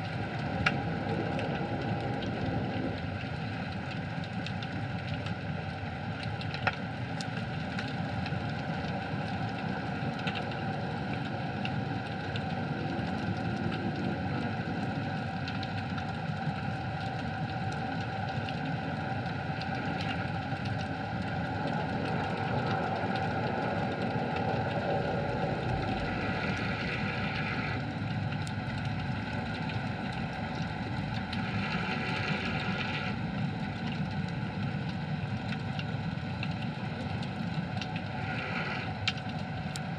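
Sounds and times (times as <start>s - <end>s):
underwater low drone: 0.0s - 39.9s.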